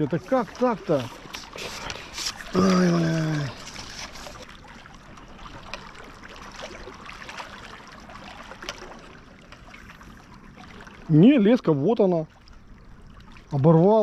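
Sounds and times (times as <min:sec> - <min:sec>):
sea water washing against breakwater: 0:00.0 - 0:14.0.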